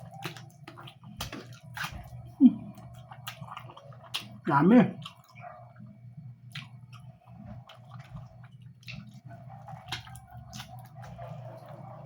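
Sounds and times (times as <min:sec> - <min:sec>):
lip smacks and mouth clicks: 0:00.0 - 0:04.4, 0:05.0 - 0:11.8
wet chewing: 0:00.0 - 0:12.0.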